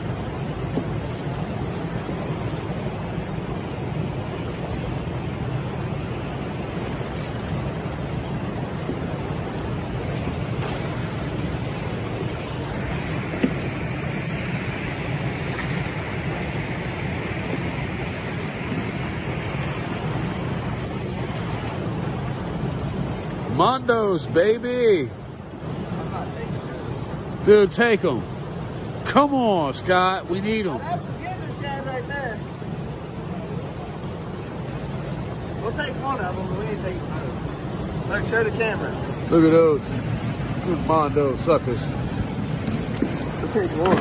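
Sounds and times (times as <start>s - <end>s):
turbulent water rushing: 0.0s - 44.0s.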